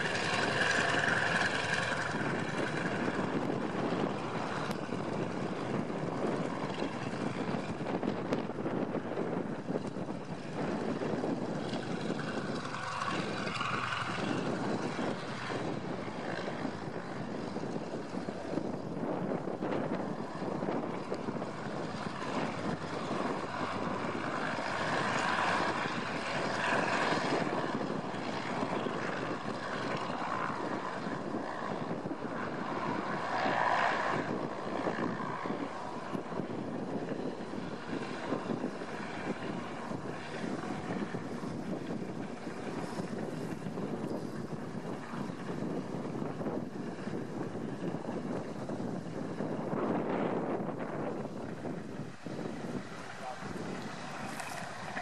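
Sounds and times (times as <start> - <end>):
radial aircraft engine and propeller: 0.0 - 55.0.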